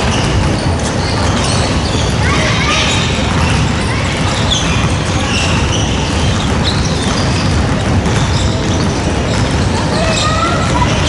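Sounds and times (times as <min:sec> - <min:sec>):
basketball bouncing: 0:00.0 - 0:11.0
noisy gym din: 0:00.0 - 0:11.0
sneaker squeaks: 0:00.0 - 0:11.0.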